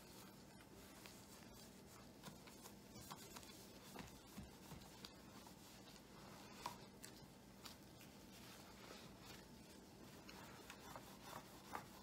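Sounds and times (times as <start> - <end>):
cloth wiping monitor: 0.0 - 12.0.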